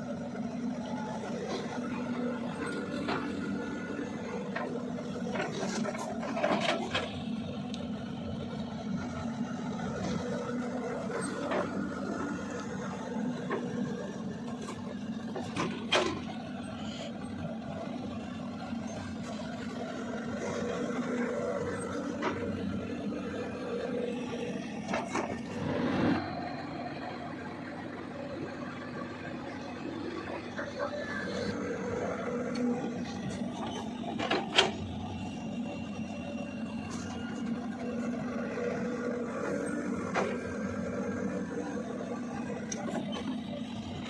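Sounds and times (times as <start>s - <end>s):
excavator diesel engine: 0.0s - 44.0s.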